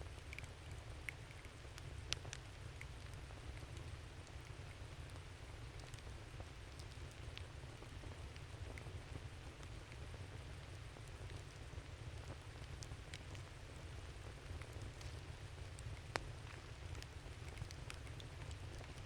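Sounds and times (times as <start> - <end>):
campfire crackling and popping: 0.1 - 19.0.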